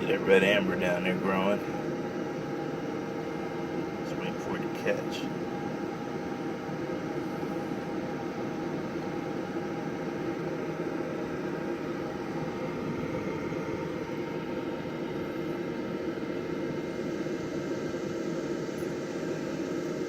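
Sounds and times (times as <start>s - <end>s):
grill fan whooshing hum: 0.0s - 20.0s.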